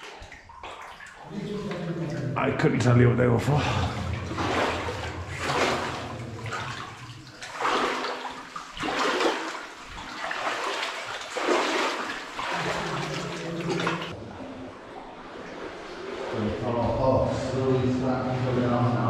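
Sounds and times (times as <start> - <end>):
wading through sloshing water: 0.0 - 19.0.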